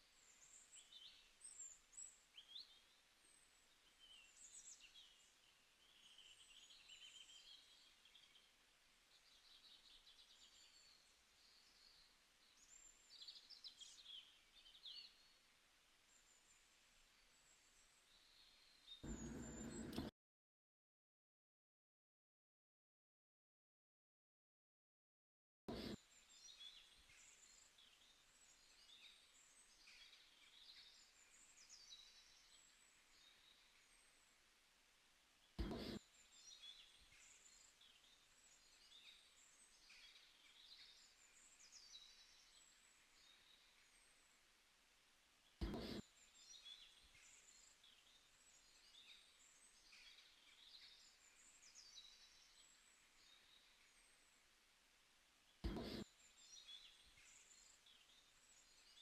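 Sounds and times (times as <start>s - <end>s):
small birds chirping: 0.0s - 15.5s, 16.1s - 20.1s, 25.7s - 34.2s, 35.4s - 44.3s, 45.4s - 54.4s, 55.5s - 59.0s
low background hiss: 0.0s - 20.1s, 26.0s - 59.0s.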